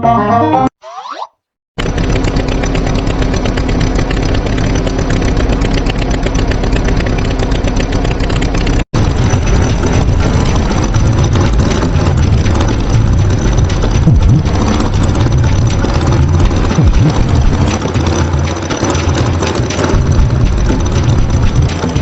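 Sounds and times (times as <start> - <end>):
tractor engine running: 1.8 - 22.0.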